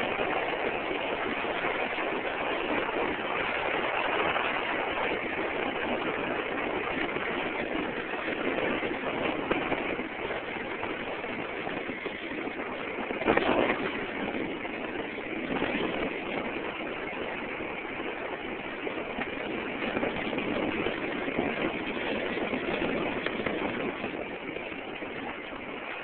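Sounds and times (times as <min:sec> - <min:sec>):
rushing noise of bicycle ride: 0:00.0 - 0:26.0.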